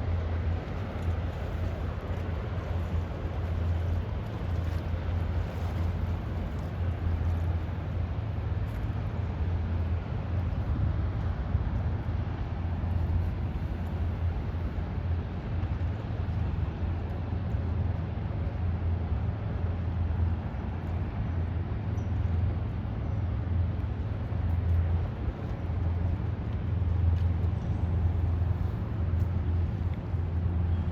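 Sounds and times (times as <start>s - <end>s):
ship engine drone: 0.0s - 30.9s
wash of noise: 0.0s - 30.9s.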